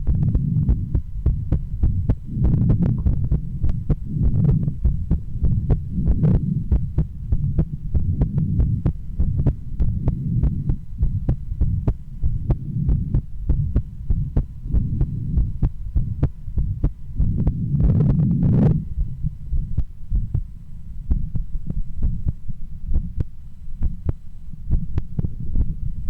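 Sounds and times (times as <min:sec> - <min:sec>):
heartbeat through stethoscope: 0:00.0 - 0:26.0
steady low rumble: 0:00.0 - 0:26.0.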